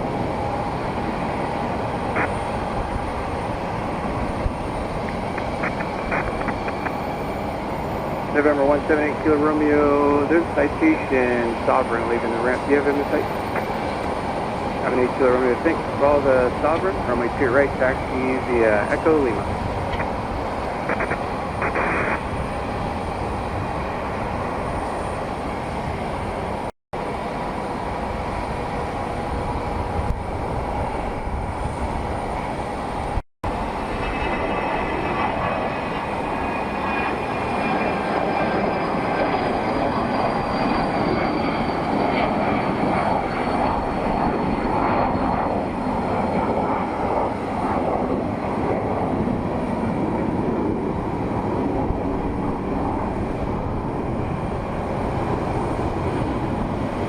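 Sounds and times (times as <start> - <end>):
high jet engine whine: 0.0 - 57.0
jet engine rush: 0.0 - 57.0.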